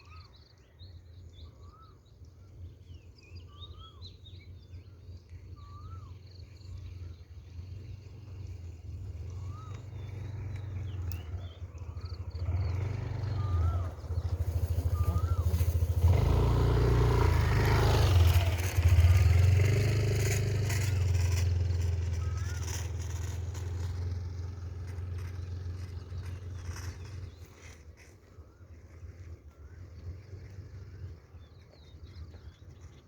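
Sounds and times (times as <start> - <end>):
vehicle engine passing by: 5.6 - 33.0.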